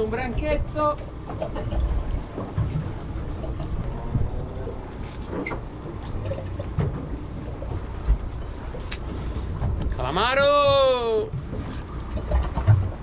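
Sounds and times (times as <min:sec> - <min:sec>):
outboard motors rumbling: 0:00.0 - 0:13.0.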